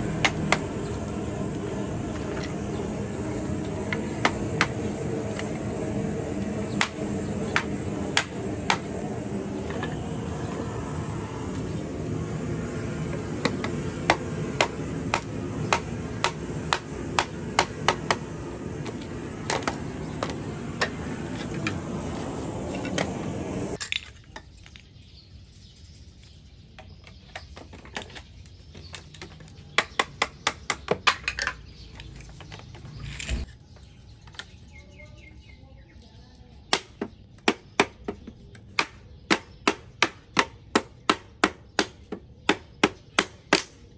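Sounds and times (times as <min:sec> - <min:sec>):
steady background noise: 0:00.0 - 0:43.9.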